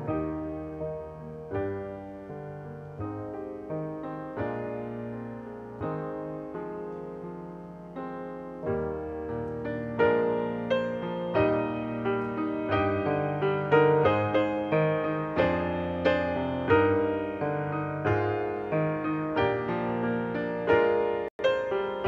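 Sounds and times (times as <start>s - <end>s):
solo piano slow chords: 0.0s - 22.0s.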